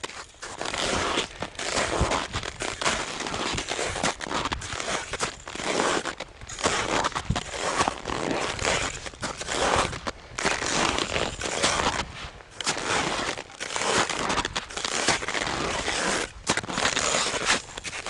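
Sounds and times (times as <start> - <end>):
crampons crunching into snow: 0.0 - 18.0.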